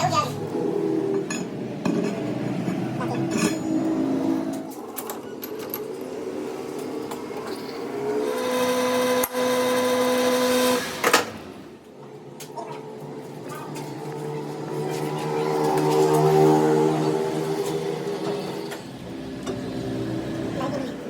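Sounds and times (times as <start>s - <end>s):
workshop clatter: 0.0s - 21.0s.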